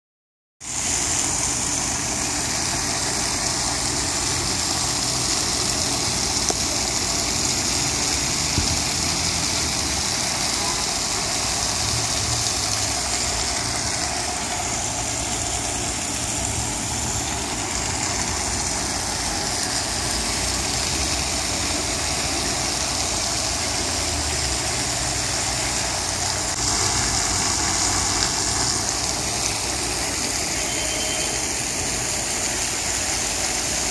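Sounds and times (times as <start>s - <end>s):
constant high hiss: 0.6s - 33.9s
idling engines rumbling: 0.8s - 33.9s.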